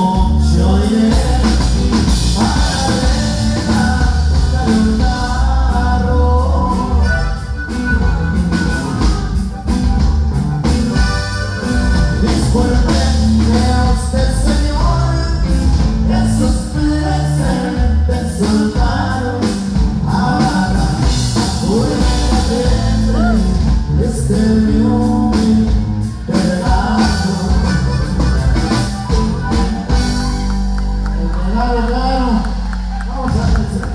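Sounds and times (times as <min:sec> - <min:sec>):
person singing: 0:00.0 - 0:07.7, 0:12.0 - 0:33.9
drum kit: 0:00.0 - 0:33.9
electric bass: 0:00.0 - 0:33.9
guitar: 0:00.0 - 0:33.9.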